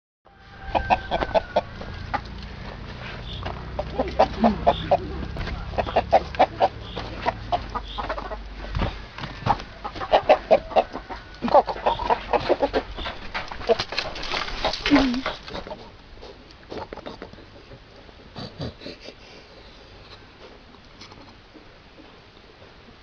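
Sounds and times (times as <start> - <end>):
chickens clucking: 0.4 - 22.2.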